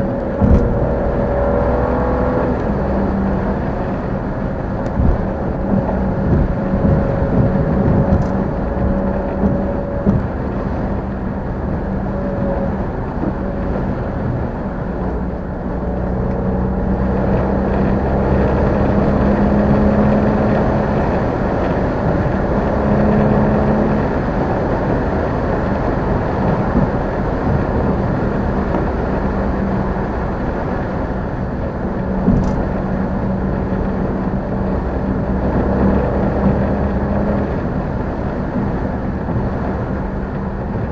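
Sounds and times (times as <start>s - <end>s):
car engine running: 0.0s - 40.9s
road and tyre noise: 0.0s - 40.9s.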